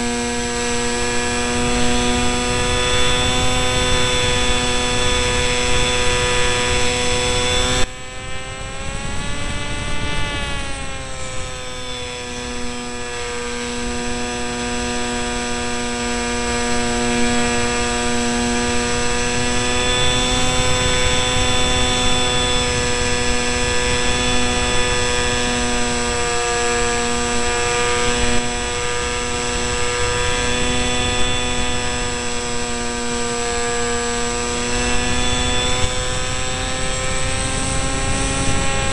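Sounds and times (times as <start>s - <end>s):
electric motor and propeller whine: 0.0s - 38.9s
wind rush: 0.4s - 16.0s, 16.6s - 38.9s.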